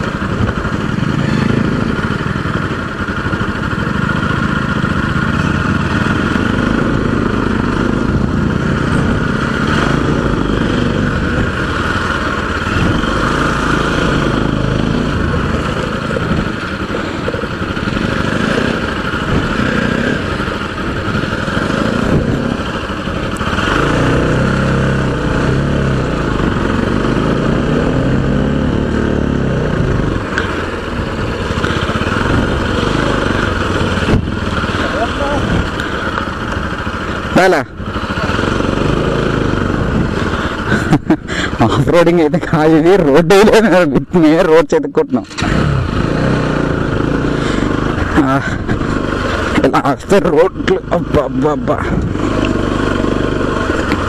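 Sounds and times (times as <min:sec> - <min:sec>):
steady rushing noise: 0:00.0 - 0:44.3
motorcycle engine at low speed: 0:00.0 - 0:54.0.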